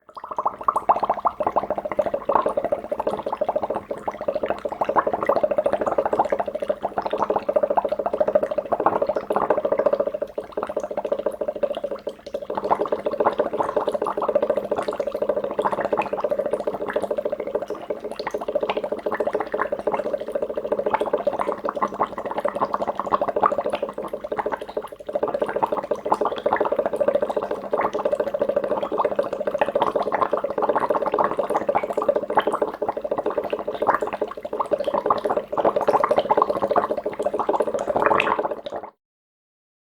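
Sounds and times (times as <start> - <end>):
water bubbling: 0.1 - 39.0.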